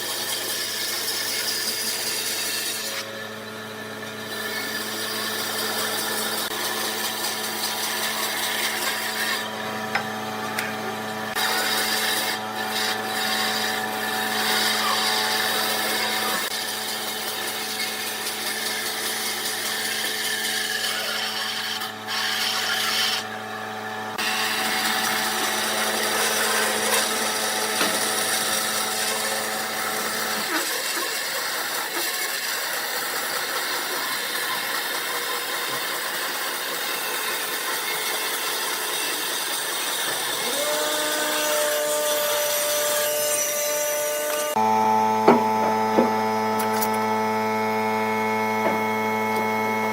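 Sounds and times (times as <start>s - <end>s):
tool scraping spinning wood: 0.0s - 44.6s
lathe motor hum: 2.8s - 49.9s.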